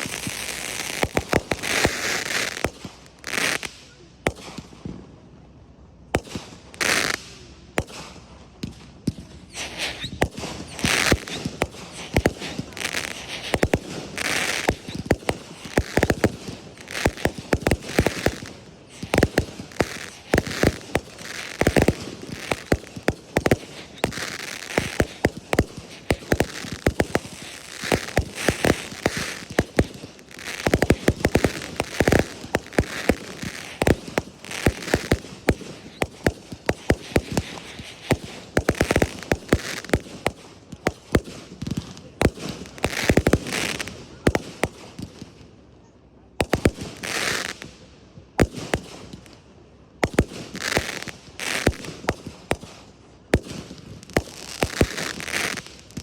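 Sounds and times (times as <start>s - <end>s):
fireworks bangs and crackle: 0.0s - 5.2s, 6.0s - 45.6s, 46.4s - 56.0s.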